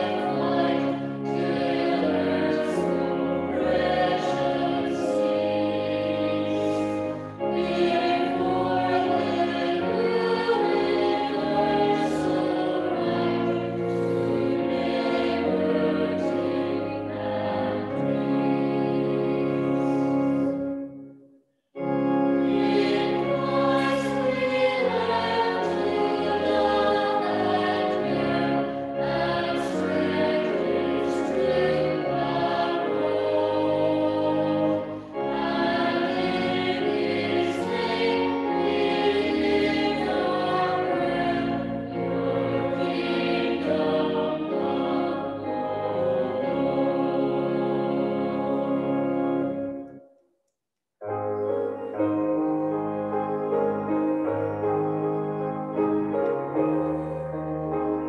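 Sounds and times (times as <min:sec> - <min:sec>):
choir singing a hymn: 0:00.0 - 0:21.0, 0:21.8 - 0:50.0
organ accompaniment: 0:00.0 - 0:21.2, 0:21.8 - 0:50.0, 0:51.1 - 0:58.0.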